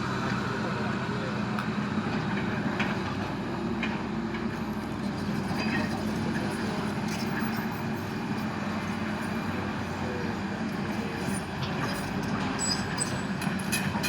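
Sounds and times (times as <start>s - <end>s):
excavator engine drone: 0.0s - 14.0s.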